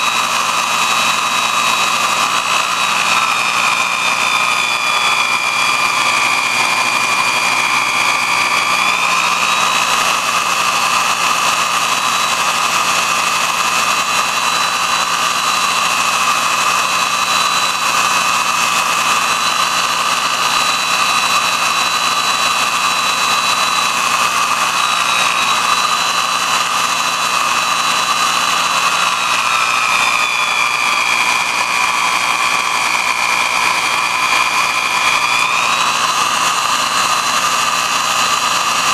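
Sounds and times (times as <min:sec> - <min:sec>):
electric motor whine: 0:00.0 - 0:38.9
knife grinding on disc: 0:00.0 - 0:38.9.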